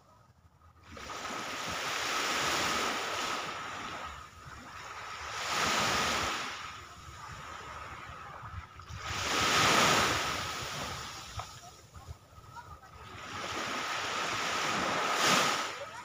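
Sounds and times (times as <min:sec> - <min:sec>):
sea waves breaking on shore: 0:00.8 - 0:16.0.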